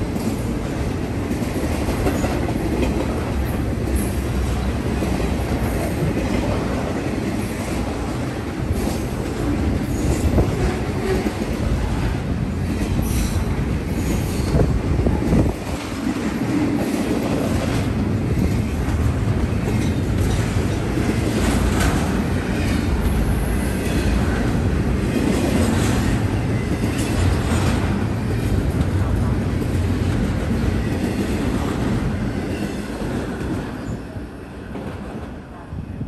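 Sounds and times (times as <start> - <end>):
steel wheels rumbling on rail: 0.0 - 36.0.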